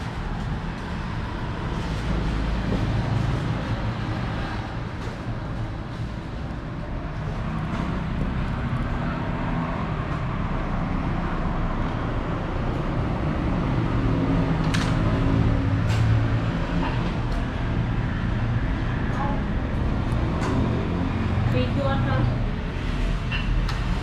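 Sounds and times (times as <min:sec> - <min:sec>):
road traffic hum: 0:00.0 - 0:24.0.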